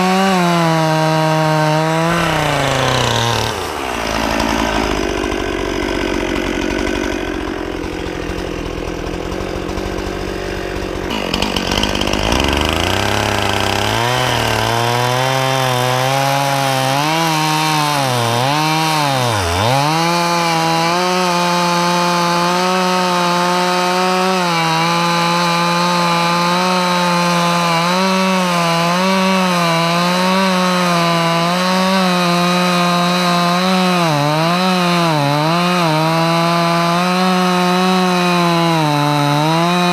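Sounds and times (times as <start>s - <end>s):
chainsaw cutting into log: 0.0s - 39.9s.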